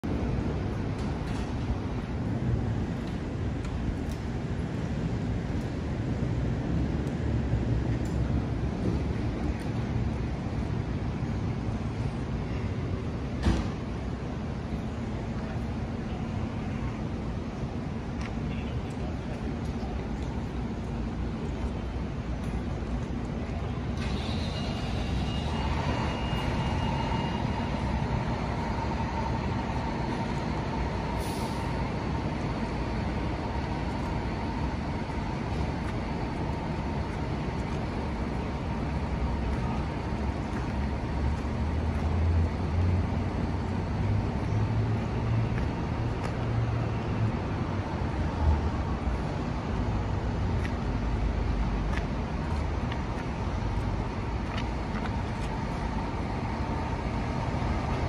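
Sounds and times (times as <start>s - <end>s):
city street background: 0.0s - 58.0s
heavy vehicle engine rumbling: 0.0s - 58.0s.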